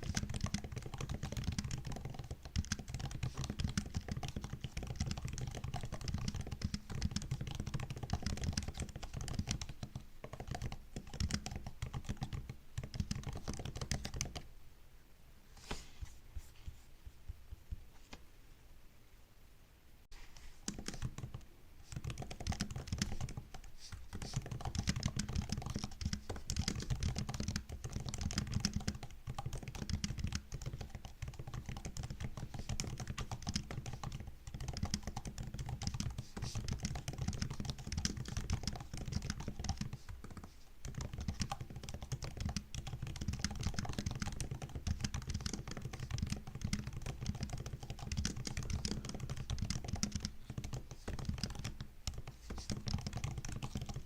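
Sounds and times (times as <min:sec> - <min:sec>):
laptop keyboard typing: 0:00.0 - 0:14.5, 0:20.4 - 0:54.0.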